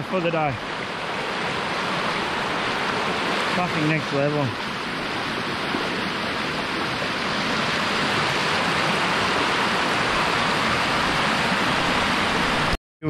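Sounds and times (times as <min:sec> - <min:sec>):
river rapids rushing: 0:00.0 - 0:12.8.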